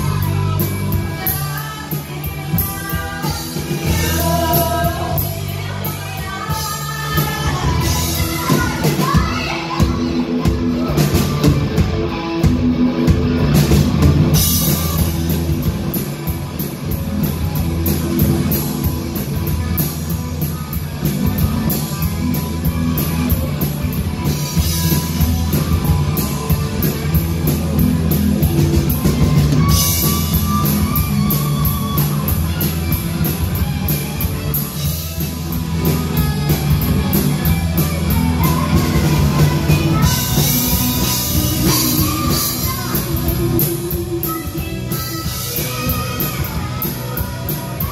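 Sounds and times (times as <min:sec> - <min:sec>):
drum kit: 0:00.0 - 0:47.9
electric guitars: 0:00.0 - 0:47.9
live rock band playing: 0:00.0 - 0:47.9.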